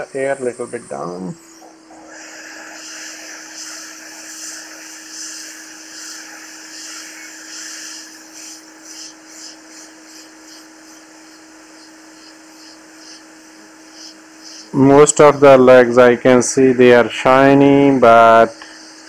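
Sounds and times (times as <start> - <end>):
faint steady hum: 0.0 - 19.0
hot air station hissing: 0.0 - 19.0.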